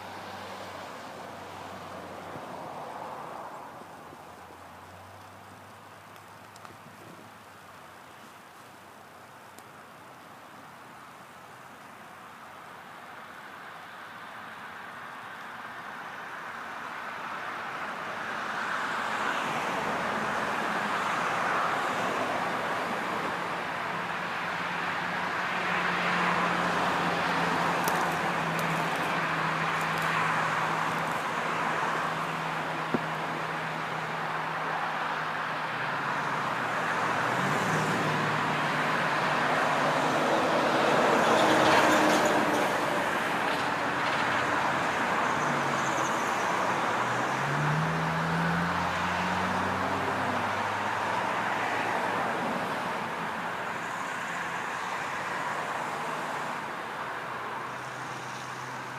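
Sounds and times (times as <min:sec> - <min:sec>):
tyre and road noise: 0:00.0 - 0:58.9.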